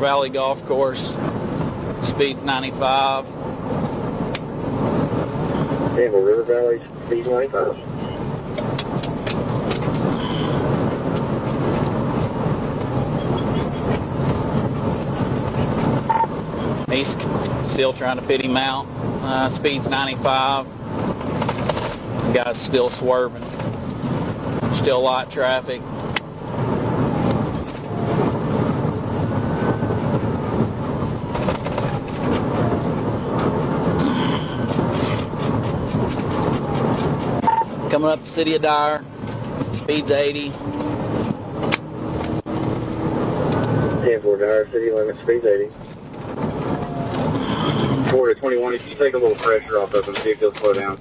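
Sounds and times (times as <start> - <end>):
road tyre and wind noise: 0.0 - 51.0.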